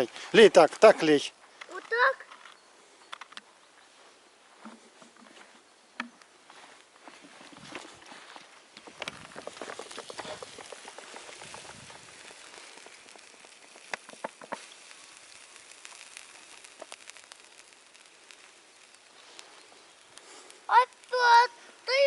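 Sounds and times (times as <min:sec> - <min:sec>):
sharp pops of embers: 0:00.0 - 0:03.6, 0:04.5 - 0:22.0
embers hissing and crackling: 0:00.0 - 0:22.0.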